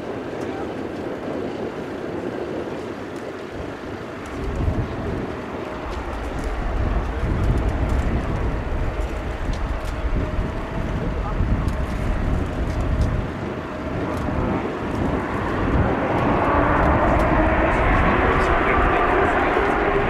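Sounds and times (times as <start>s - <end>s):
distant jet engines running: 0.0s - 20.0s
wind buffeting microphone: 0.0s - 20.0s.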